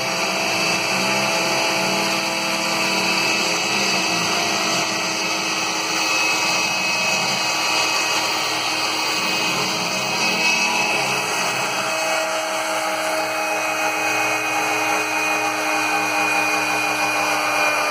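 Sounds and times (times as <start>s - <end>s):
metal cutting noise: 0.0s - 17.9s
router spindle whine: 0.0s - 17.9s.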